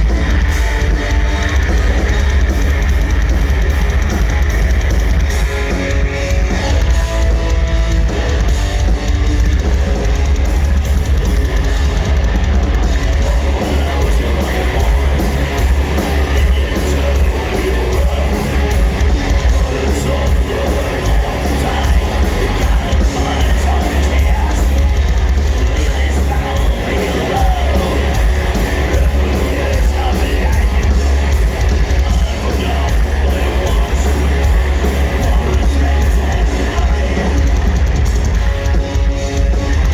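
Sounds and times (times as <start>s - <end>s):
metal band playing live: 0.0s - 39.9s.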